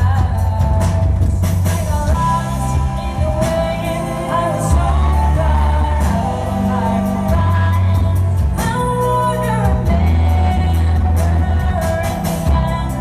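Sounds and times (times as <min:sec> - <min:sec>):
live pop band playing: 0:00.0 - 0:13.0
woman singing: 0:00.0 - 0:13.0.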